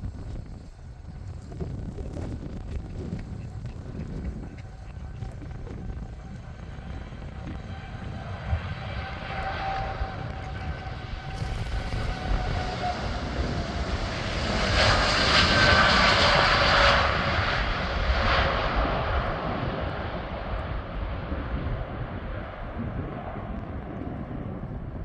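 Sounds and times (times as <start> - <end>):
jet engines rumbling with whine: 0.0 - 25.0
wind rumble on microphone: 0.0 - 25.0.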